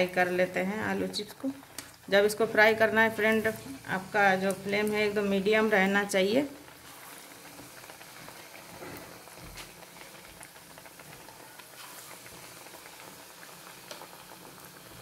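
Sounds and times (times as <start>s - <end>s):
potato slices deep-frying in oil: 0.0s - 15.0s.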